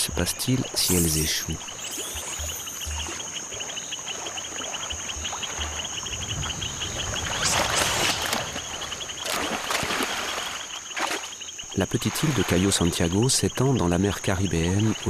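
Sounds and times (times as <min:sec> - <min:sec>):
insects chirping and trilling: 0:00.0 - 0:15.0.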